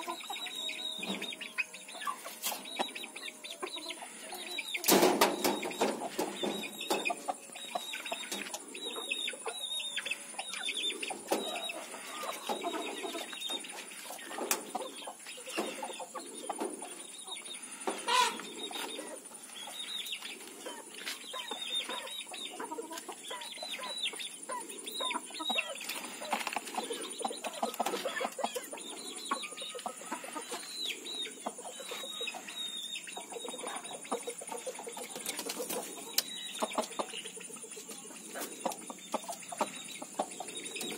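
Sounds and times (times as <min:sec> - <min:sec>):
chickens clucking: 0:00.0 - 0:40.9
steady high-pitched hiss: 0:00.0 - 0:40.9.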